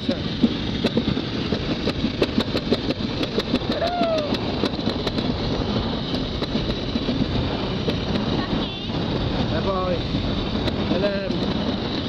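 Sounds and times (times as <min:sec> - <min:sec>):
toboggan sled rushing rumble: 0:00.0 - 0:12.0.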